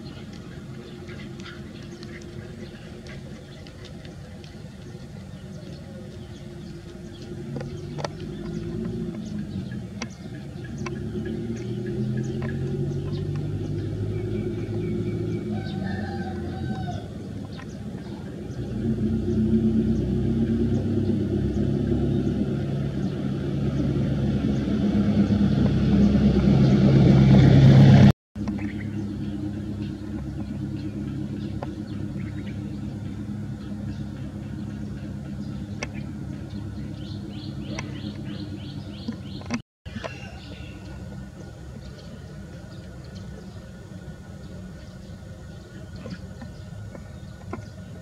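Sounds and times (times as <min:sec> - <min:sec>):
motor engine humming: 0:00.0 - 0:48.0.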